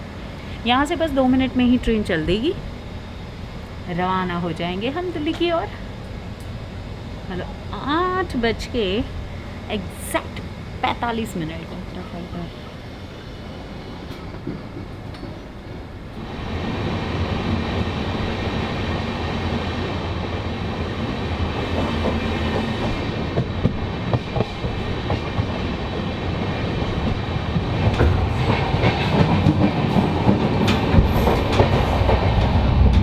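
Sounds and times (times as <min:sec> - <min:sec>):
train wheels rumbling and clicking: 0:00.0 - 0:06.6, 0:13.1 - 0:33.0.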